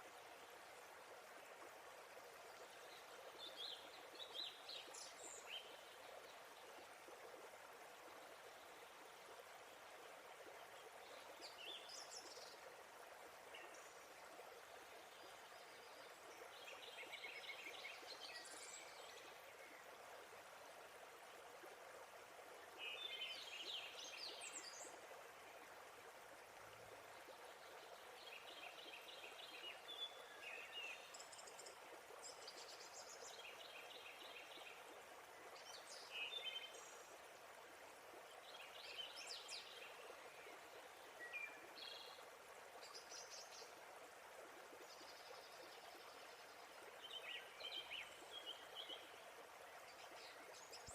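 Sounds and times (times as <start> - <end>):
faint waterfall rushing: 0.0 - 50.9.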